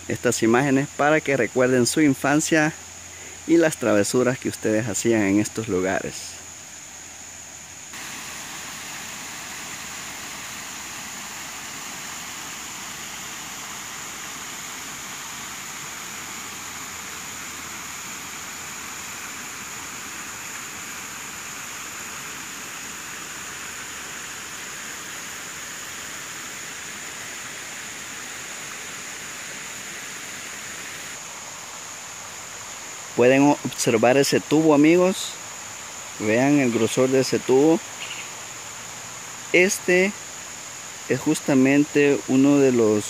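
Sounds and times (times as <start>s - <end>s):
stream rushing over stones: 0.0s - 43.0s.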